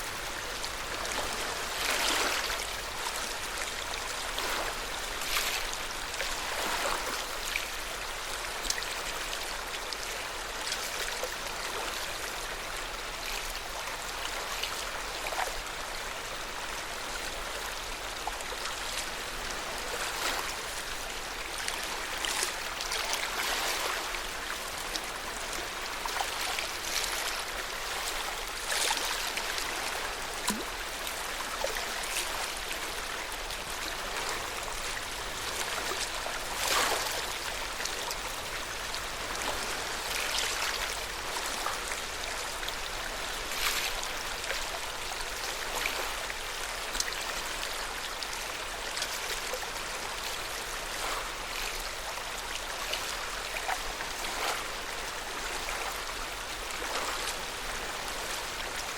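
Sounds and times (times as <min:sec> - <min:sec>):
small water splashes: 0:00.0 - 0:15.7, 0:17.8 - 0:58.9
water lapping: 0:00.0 - 0:16.0, 0:17.0 - 0:58.9.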